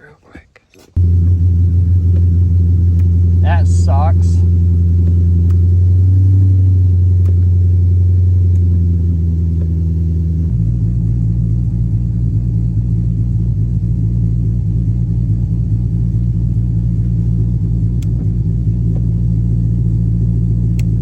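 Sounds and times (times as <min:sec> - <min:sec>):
car engine idling: 0:01.0 - 0:21.0.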